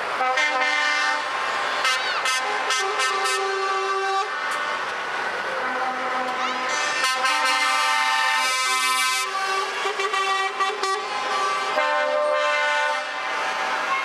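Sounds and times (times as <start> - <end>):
truck air horns: 0.1 - 4.9, 5.6 - 14.0.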